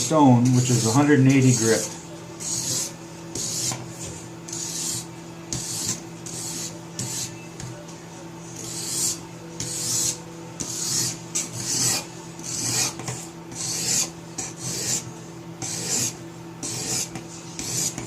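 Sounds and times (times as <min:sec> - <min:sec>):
sharpening stone rasping on knife: 0:00.6 - 0:03.8, 0:04.5 - 0:07.4, 0:08.6 - 0:18.0.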